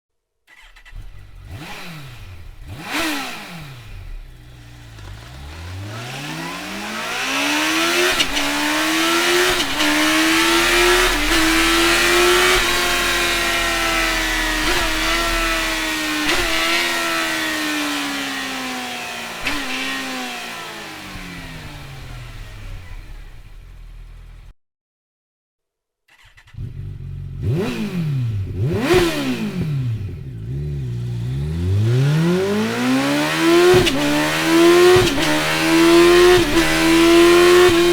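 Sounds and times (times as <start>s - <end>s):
motorcycle engine revving: 0.5s - 24.5s, 26.1s - 37.9s
motorcycle pulling away: 0.5s - 24.5s, 26.2s - 37.9s.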